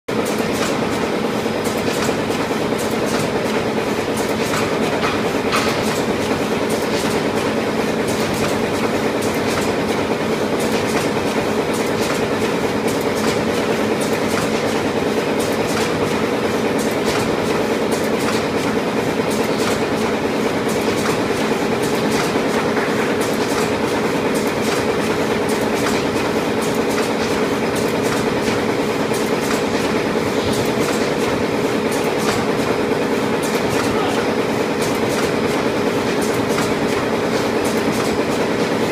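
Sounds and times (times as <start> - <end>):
packaging machine hum: 0.1 - 38.9
fast clatter of clicks: 0.2 - 34.0, 34.8 - 38.9.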